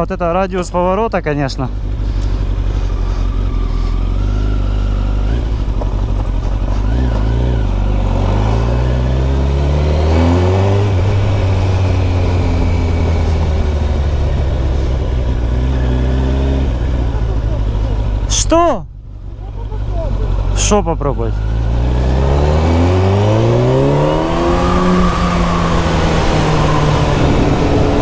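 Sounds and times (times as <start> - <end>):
motorcycle engine revving: 1.5 - 28.0.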